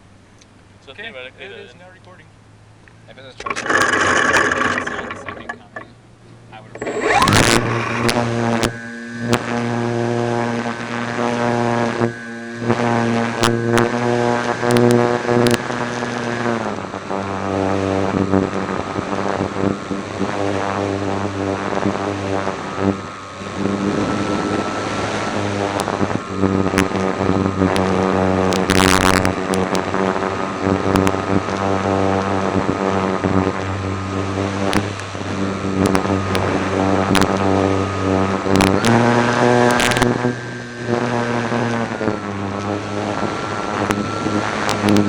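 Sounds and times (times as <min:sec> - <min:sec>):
model plane propeller droning: 0:00.0 - 0:45.0.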